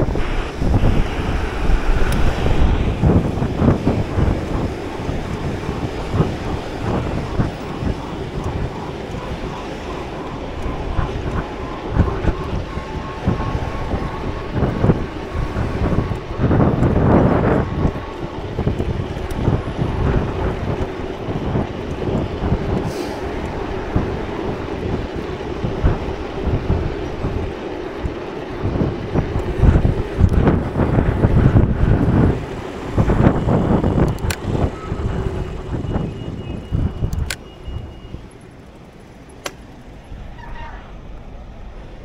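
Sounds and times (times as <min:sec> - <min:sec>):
road traffic: 0:00.0 - 0:42.0
wind buffeting microphone: 0:00.0 - 0:42.0.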